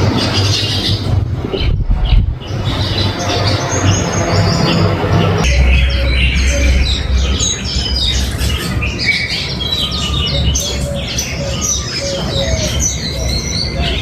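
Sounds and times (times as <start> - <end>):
flock of birds chirping: 0.0 - 14.0
steady low rumble: 0.7 - 12.0.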